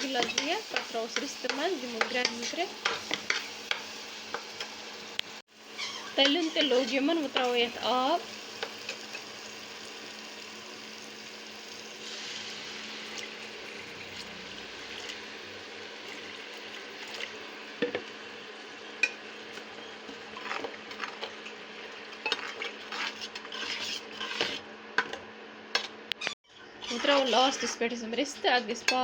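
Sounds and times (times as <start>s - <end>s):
oil and gravy sizzling in a pot: 0.0s - 24.7s.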